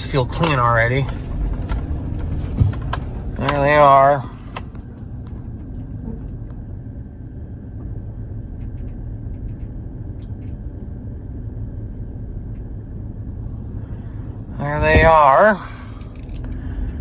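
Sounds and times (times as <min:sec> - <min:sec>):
vehicle rumble from inside: 0:00.0 - 0:17.0.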